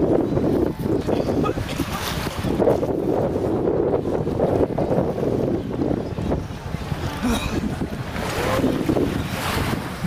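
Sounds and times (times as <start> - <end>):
small waves washing onto sand: 0.0 - 10.0
wind buffeting microphone: 0.0 - 10.0.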